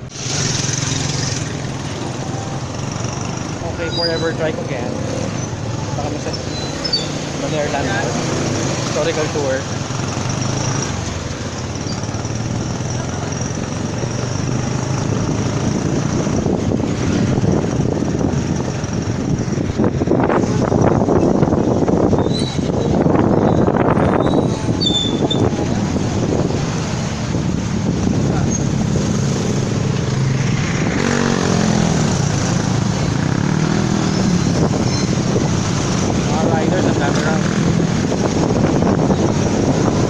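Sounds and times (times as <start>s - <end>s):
road noise: 0.0s - 40.0s
vehicle engine rumble: 0.0s - 40.0s.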